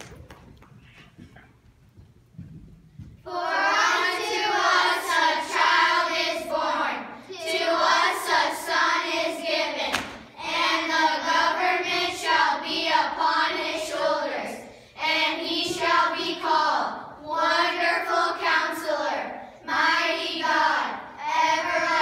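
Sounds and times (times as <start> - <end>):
children singing: 3.3 - 22.0.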